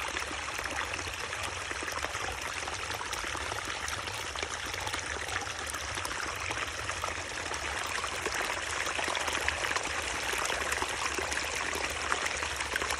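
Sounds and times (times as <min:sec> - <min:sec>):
stream water trickling: 0:00.0 - 0:12.9.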